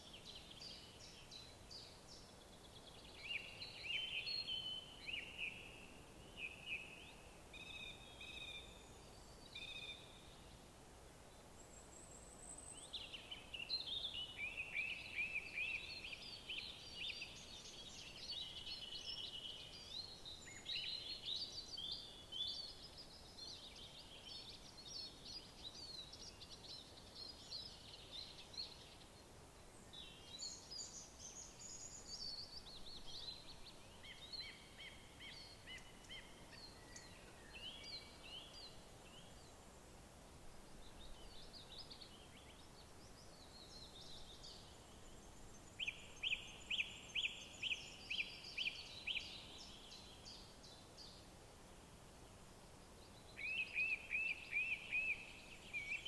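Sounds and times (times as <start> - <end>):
songbirds chirping and trilling: 0.0 - 10.7, 11.3 - 39.9, 40.7 - 51.4, 52.2 - 56.0
faint outdoor background: 0.0 - 56.0.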